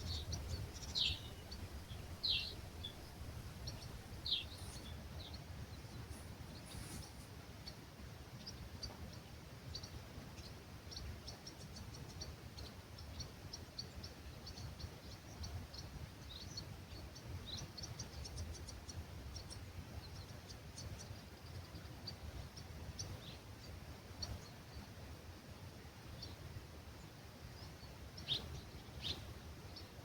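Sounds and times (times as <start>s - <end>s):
small birds chirping: 0.0s - 25.0s, 26.0s - 30.0s
low rumble of breeze: 0.0s - 30.0s.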